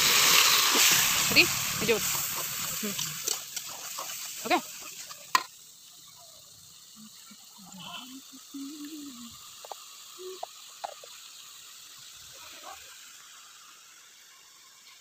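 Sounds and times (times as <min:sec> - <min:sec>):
curry sizzling in a wok: 0:00.0 - 0:15.0.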